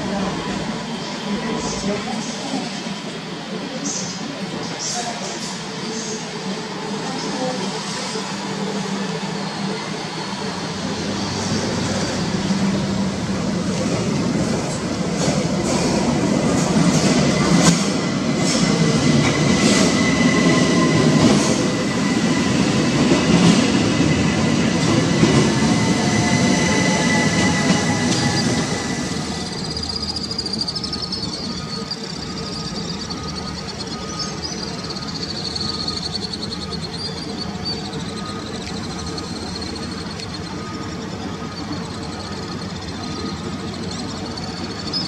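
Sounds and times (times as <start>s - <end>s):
train wheels rumbling on rails: 0.0s - 45.0s
train wheels squealing: 3.8s - 13.9s, 14.6s - 45.0s.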